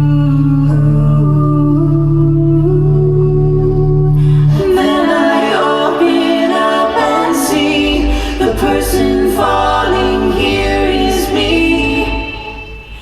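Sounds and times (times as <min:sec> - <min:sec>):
a cappella group singing harmony: 0:00.0 - 0:13.0
deep bass vocal line: 0:00.0 - 0:13.0.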